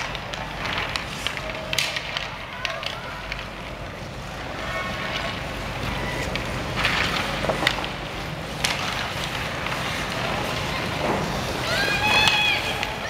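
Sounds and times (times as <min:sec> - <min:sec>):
hockey sticks and puck clacking: 0:00.0 - 0:13.0
skates scraping ice: 0:00.0 - 0:13.0
steady hall hum: 0:00.0 - 0:13.0.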